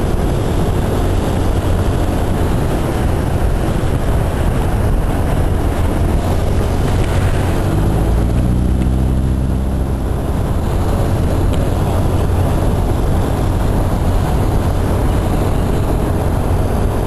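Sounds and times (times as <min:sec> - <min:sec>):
engine hum: 0:00.0 - 0:17.0
wind noise on microphone: 0:00.0 - 0:17.0.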